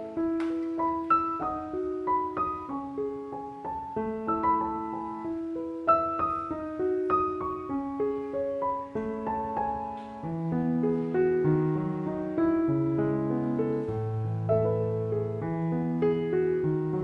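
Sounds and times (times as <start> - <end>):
slow solo piano melody: 0.0 - 17.0.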